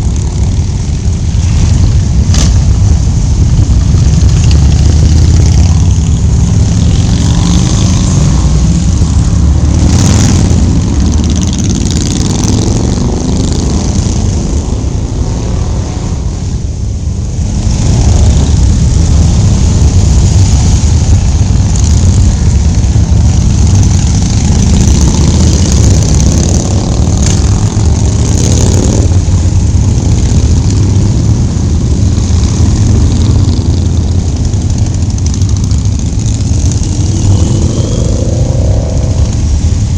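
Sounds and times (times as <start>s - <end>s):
motorcycle engines running: 0.0s - 39.9s.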